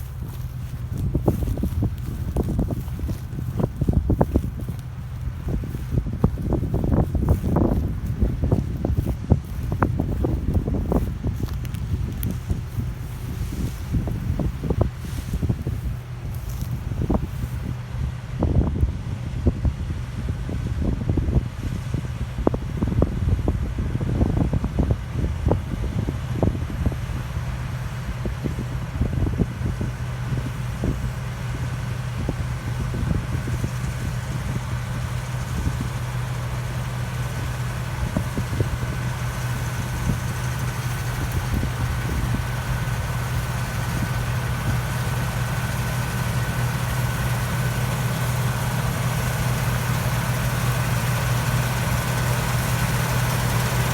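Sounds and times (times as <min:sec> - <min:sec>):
diesel engine running: 0:00.0 - 0:53.9
wind buffeting microphone: 0:00.0 - 0:53.9.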